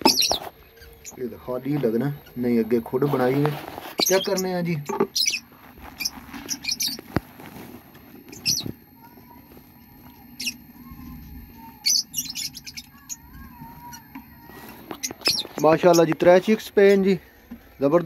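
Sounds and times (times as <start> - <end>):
chicks peeping: 0.0 - 17.9
faint warbling chatter: 0.0 - 18.0.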